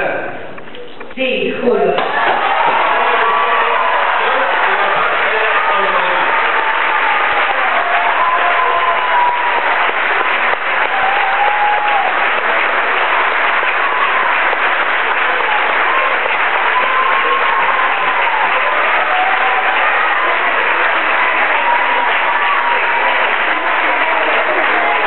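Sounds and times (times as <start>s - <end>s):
crowd applauding: 2.0s - 25.0s.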